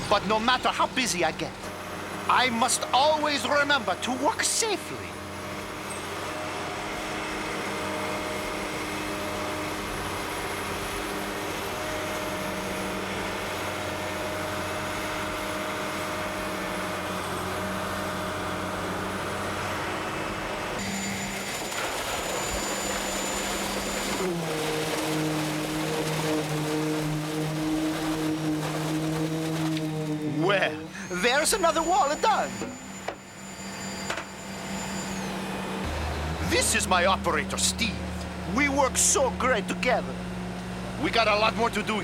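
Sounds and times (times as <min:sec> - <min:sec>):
construction machinery diesel engines: 0:00.0 - 0:42.0.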